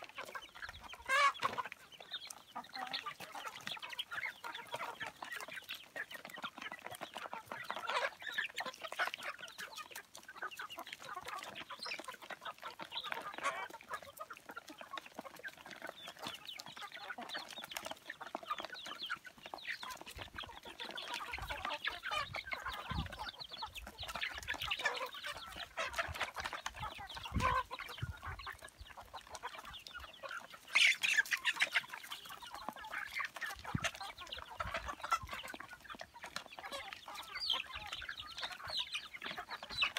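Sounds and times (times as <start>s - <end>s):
chicks clucking and chirping: 0.0s - 39.9s.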